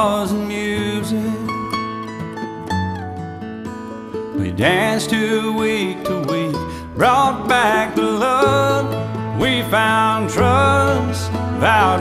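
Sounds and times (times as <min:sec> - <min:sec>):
country music on acoustic strings: 0:00.0 - 0:12.0.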